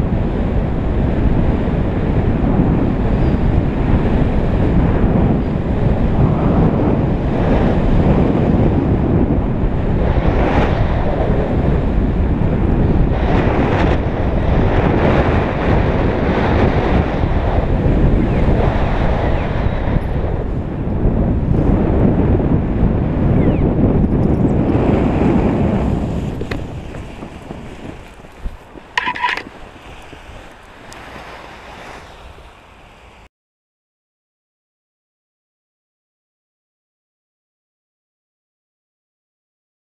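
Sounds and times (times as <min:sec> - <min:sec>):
wind rushing over microphone: 0:00.0 - 0:33.3.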